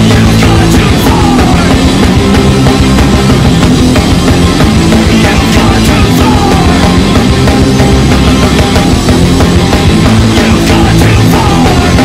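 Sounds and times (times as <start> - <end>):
fast punk rock music: 0.0 - 12.0.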